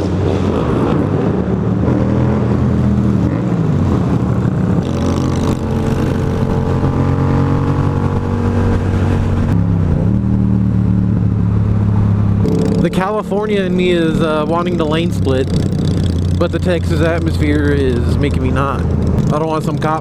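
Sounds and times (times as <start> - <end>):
motorcycle engine at speed: 0.0 - 20.0.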